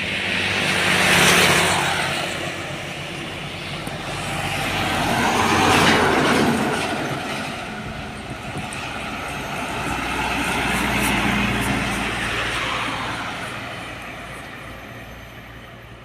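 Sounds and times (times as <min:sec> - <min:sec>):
heavy trucks passing: 0:00.0 - 0:16.0.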